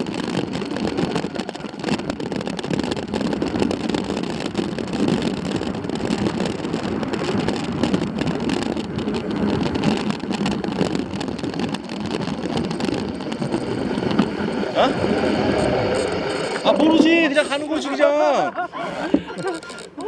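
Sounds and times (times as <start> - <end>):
small clicks and rattles: 0.0 - 17.7, 19.1 - 20.0
rushing noise from riding: 0.0 - 20.0.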